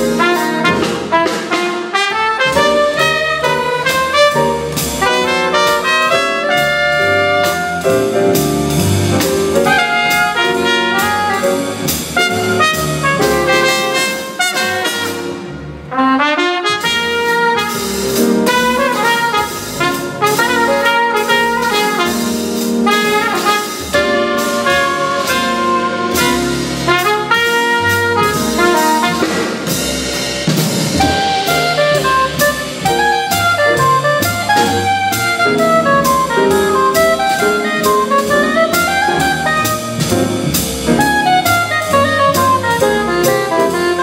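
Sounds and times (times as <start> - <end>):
double bass: 0.0 - 44.0
drum kit: 0.0 - 44.0
piano: 0.0 - 44.0
trumpet: 0.0 - 44.0.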